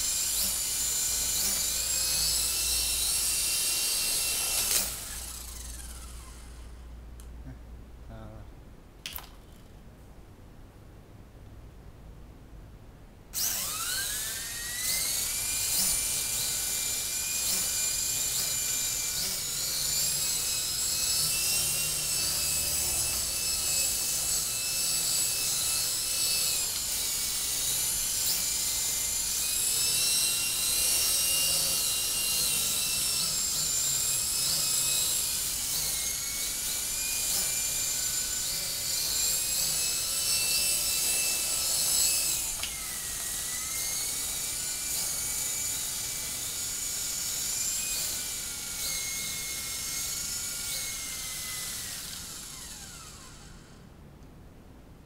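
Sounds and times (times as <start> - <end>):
rc helicopter motor whine: 0.0 - 6.8, 13.4 - 53.9.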